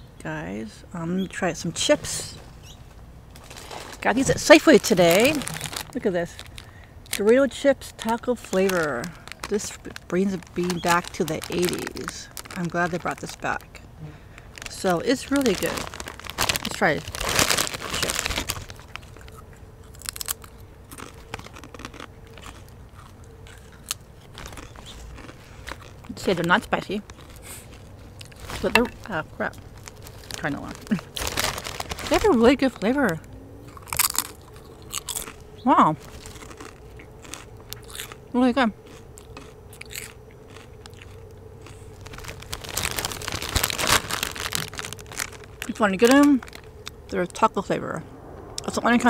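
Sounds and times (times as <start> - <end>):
chips crunching while chewed: 3.3 - 47.0.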